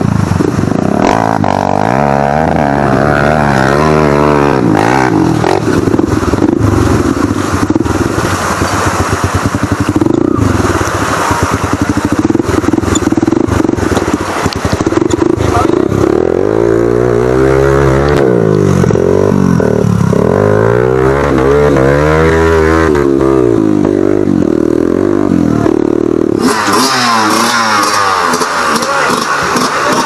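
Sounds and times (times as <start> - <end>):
water splashing: 0.0 - 24.6
dirt bike engine revving: 0.0 - 30.0
higher-pitched dirt bike engine: 0.0 - 30.0.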